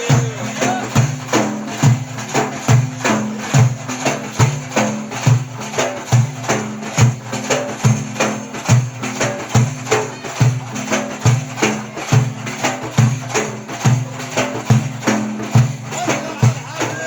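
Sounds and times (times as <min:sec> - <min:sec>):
percussion beat: 0:00.0 - 0:17.0.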